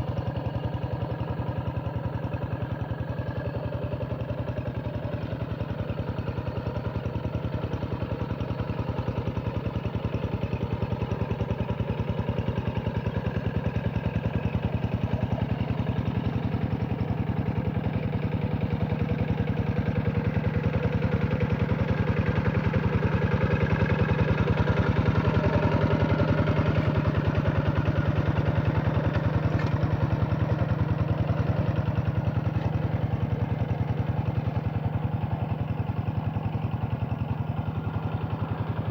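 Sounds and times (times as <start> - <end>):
diesel engine chugging: 0.0 - 38.9.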